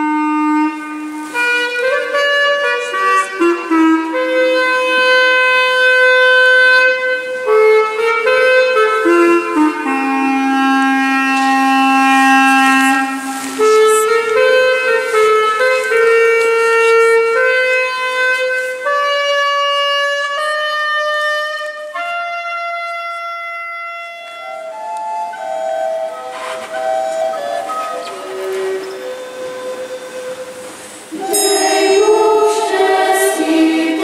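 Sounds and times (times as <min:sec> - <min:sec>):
clarinet playing slow melody: 0:00.0 - 0:34.0
sustained accompanying notes: 0:00.0 - 0:34.0.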